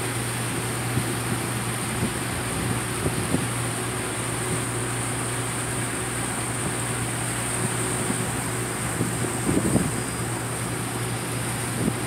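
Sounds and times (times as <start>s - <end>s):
boat engines humming: 0.0s - 12.0s
hiss of wind and water: 0.0s - 12.0s.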